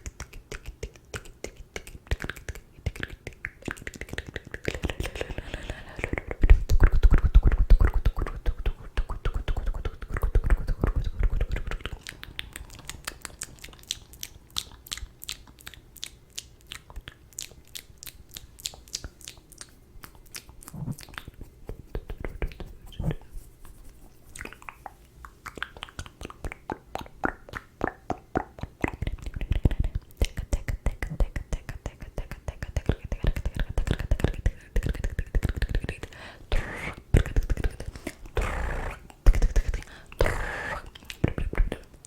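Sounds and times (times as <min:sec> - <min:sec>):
lip and tongue clicks: 0:00.0 - 0:23.2, 0:23.8 - 0:42.0.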